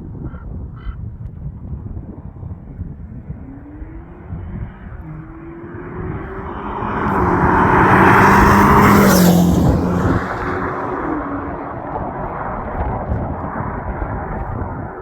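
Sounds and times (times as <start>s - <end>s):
car exhaust accelerating hard: 2.4s - 14.9s.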